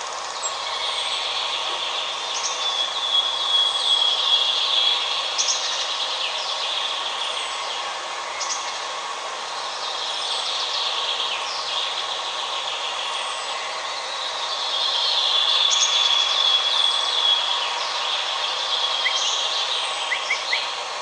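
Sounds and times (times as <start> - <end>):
songbirds singing: 0.0 - 21.0
steady background hiss: 0.0 - 21.0.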